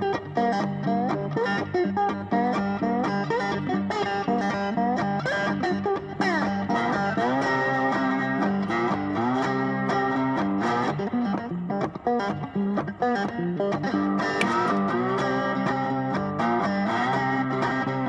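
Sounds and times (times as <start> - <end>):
guitar music with bass line: 0.0 - 18.0.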